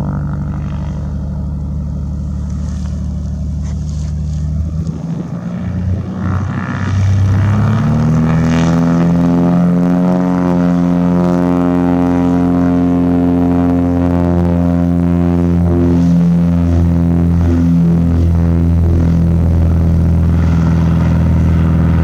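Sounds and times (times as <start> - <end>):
propeller airplane engine throttling up: 0.0 - 22.0.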